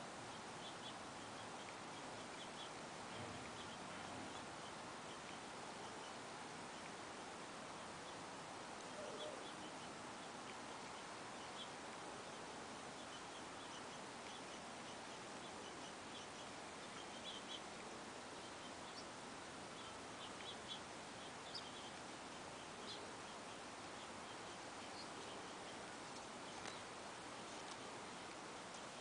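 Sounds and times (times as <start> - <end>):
steady hiss: 0.0 - 29.0
faint bird chirps: 0.1 - 7.0, 7.6 - 29.0.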